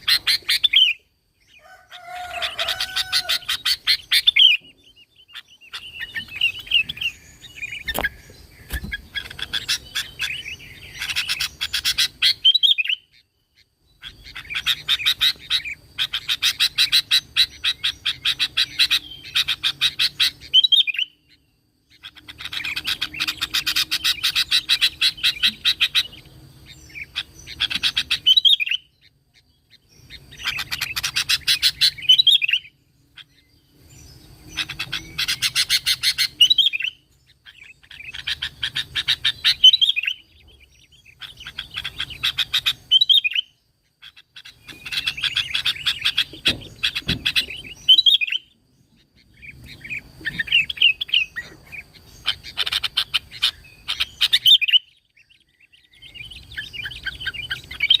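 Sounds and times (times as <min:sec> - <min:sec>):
bird singing chattering notes: 0:00.0 - 0:58.0.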